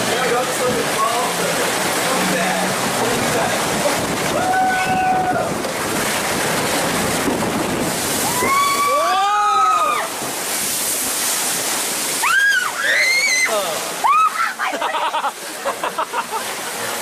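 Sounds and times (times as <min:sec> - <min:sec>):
water rushing and sloshing: 0:00.0 - 0:17.0.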